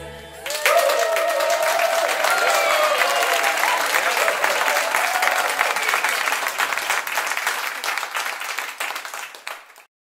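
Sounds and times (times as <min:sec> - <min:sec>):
crowd applauding and cheering: 0:00.4 - 0:09.9.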